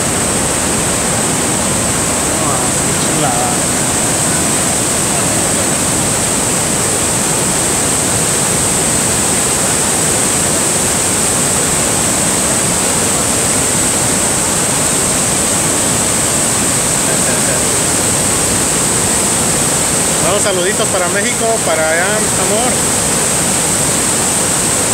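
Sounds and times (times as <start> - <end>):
water churning over rocks: 0.0 - 24.9
waterfall roaring: 0.0 - 24.9.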